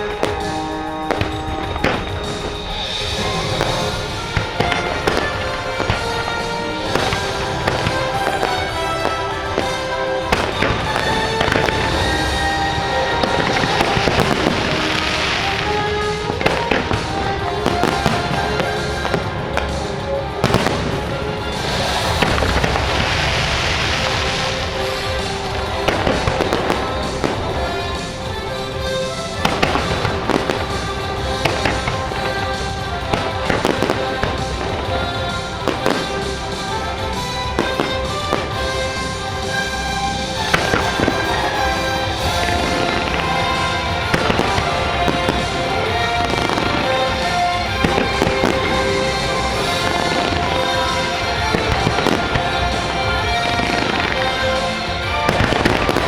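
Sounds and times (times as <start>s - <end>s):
fireworks bangs: 0.0s - 56.0s
loud music: 0.0s - 56.0s.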